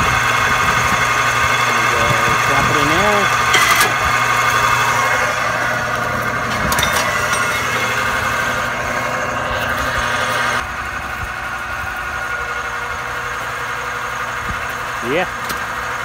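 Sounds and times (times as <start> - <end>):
electric motor hum: 0.0 - 16.0
rollers grinding wire: 0.0 - 16.0.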